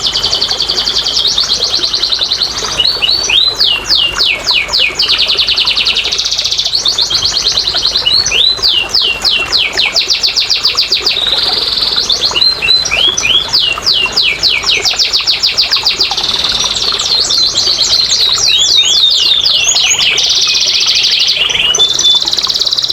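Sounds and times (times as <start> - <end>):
canary singing: 0.0 - 22.9.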